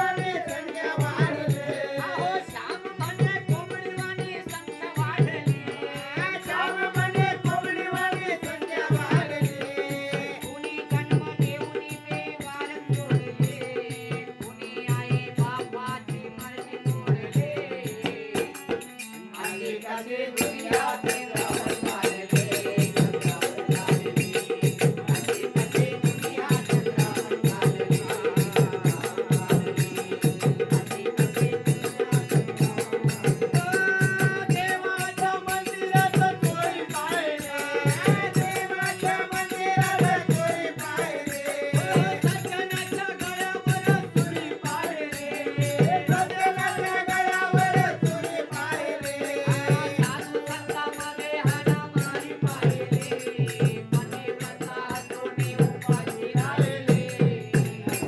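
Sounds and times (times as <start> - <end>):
hand drum rhythm: 0.0 - 58.0.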